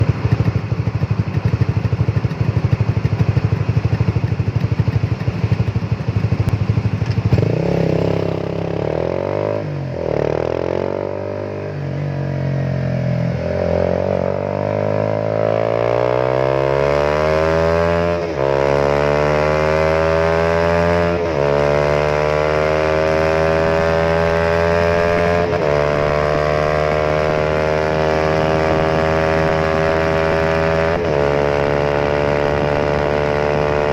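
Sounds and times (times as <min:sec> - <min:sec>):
motorcycle engine idling and accelerating: 0:00.0 - 0:33.9.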